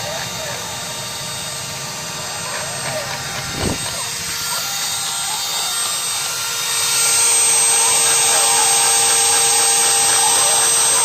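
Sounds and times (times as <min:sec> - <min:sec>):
blower fan running: 0:00.0 - 0:11.0
router spindle whining: 0:00.0 - 0:11.0.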